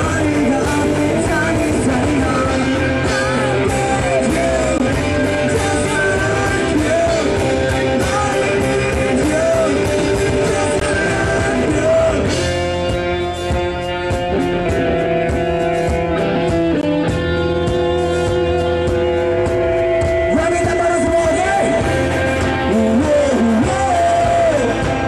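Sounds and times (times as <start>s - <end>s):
person singing: 0.0s - 12.8s, 17.4s - 25.0s
bass guitar: 0.0s - 25.0s
distorted electric guitars: 0.0s - 25.0s
drums: 0.0s - 25.0s.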